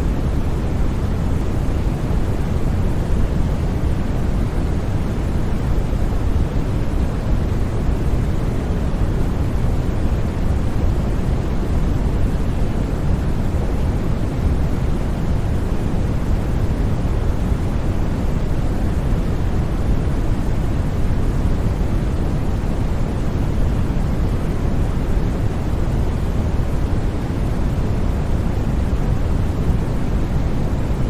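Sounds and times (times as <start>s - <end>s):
low rushing white noise: 0.0s - 31.0s.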